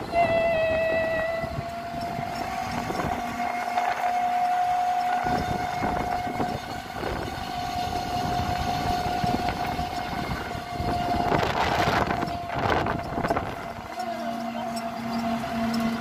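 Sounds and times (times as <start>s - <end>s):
high engine whine: 0.0s - 16.0s
road and wind noise: 0.0s - 16.0s.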